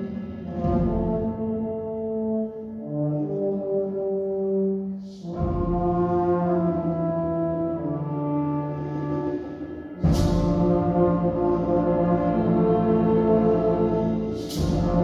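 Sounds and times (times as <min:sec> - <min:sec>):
brass ensemble playing chords: 0:00.0 - 0:15.0.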